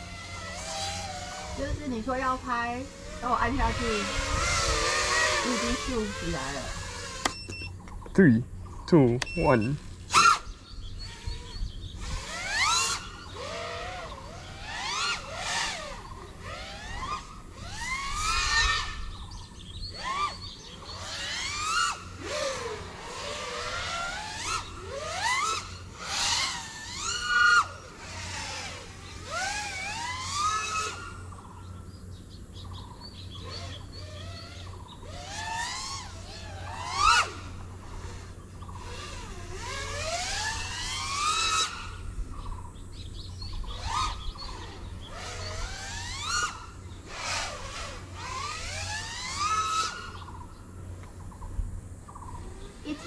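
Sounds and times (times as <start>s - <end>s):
drone propellers whining: 0.0s - 53.0s.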